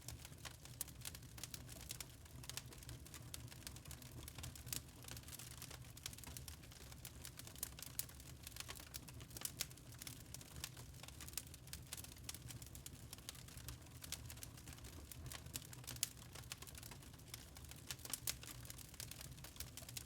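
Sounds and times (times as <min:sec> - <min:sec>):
low rumble of burning: 0:00.0 - 0:20.0
wood fire crackling: 0:00.0 - 0:20.0.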